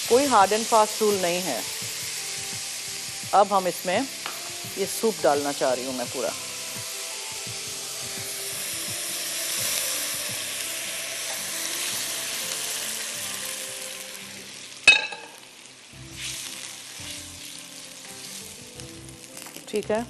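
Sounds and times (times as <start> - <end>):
stock sizzling in a wok: 0.0 - 20.0.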